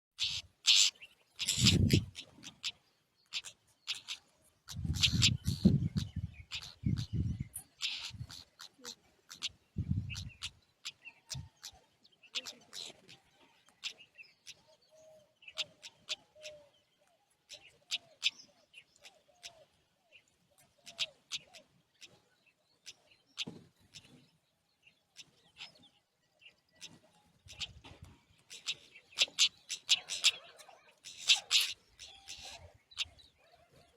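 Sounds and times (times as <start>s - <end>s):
birds chirping high: 0.2s - 33.9s.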